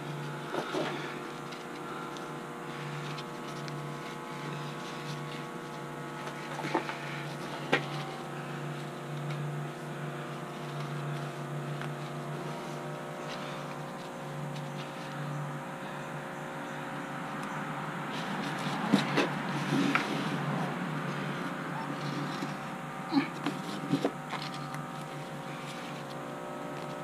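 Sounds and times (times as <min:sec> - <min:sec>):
pulsing machine hum: 0:00.0 - 0:27.0.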